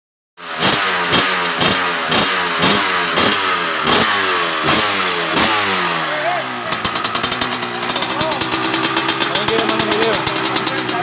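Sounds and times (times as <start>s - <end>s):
motorcycle engine revving: 0.4s - 11.0s.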